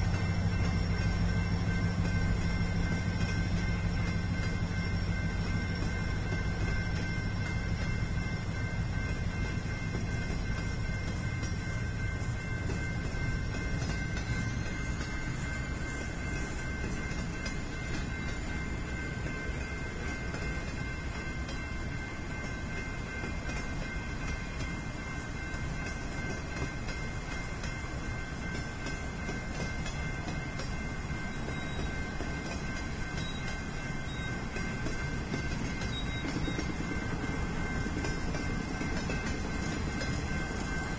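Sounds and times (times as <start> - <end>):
diesel locomotive engine drone: 0.0 - 40.9
train wheels on rail: 0.0 - 40.9.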